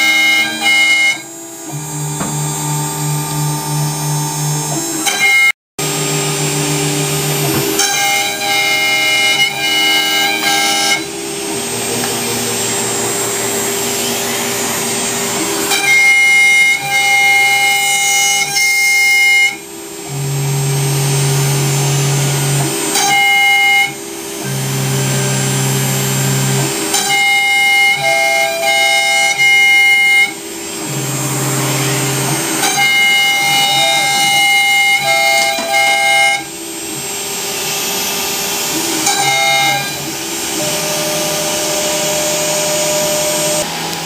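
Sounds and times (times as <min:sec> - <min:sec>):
motors whining: 0:00.0 - 0:44.0
router spindle cutting wood: 0:00.0 - 0:44.0.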